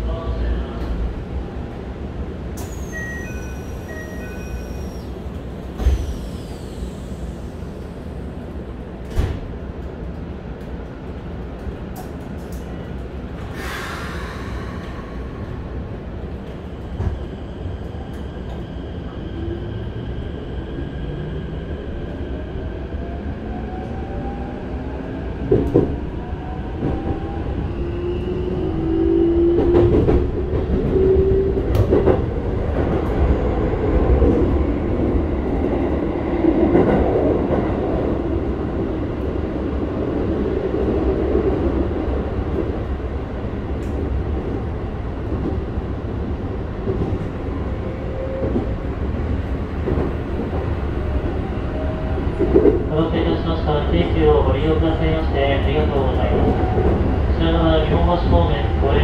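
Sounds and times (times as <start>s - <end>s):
train wheels on rail: 2.3s - 22.3s, 23.0s - 59.0s.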